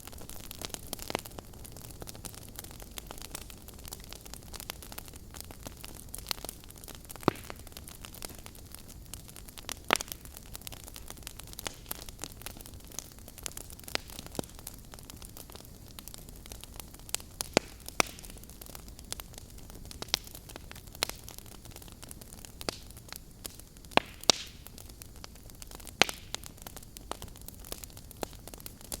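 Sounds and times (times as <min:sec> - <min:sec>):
steady low hiss: 0:00.0 - 0:29.0
wood fire crackling: 0:00.0 - 0:29.0.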